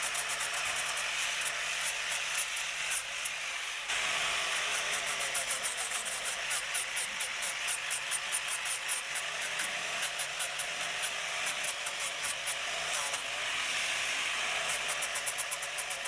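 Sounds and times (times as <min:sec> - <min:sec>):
power tool ticking and whining: 0:00.0 - 0:16.0.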